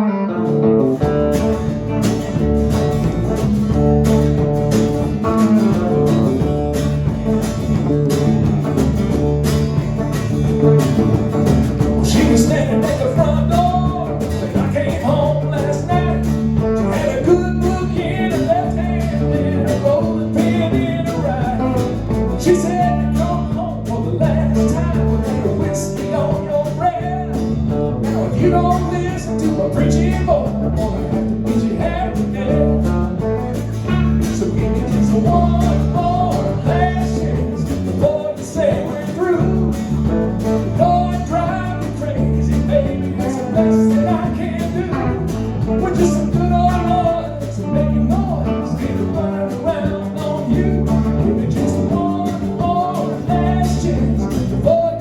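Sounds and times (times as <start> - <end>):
country band playing: 0.0 - 55.0
lead guitar picking melody: 0.0 - 55.0.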